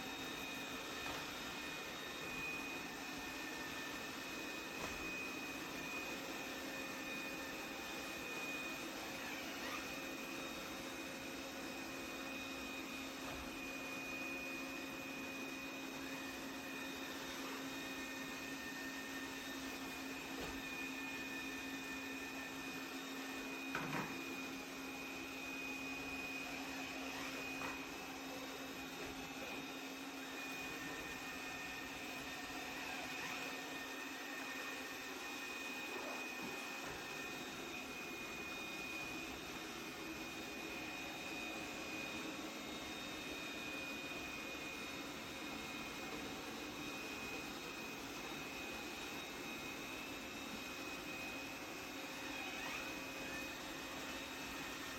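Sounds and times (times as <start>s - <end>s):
robot vacuum humming and whining: 0.0s - 54.9s.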